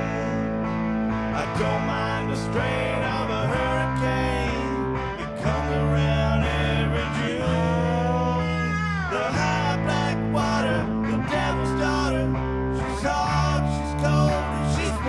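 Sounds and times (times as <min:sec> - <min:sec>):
electric bass notes: 0:00.0 - 0:15.0
electric guitar: 0:00.0 - 0:15.0.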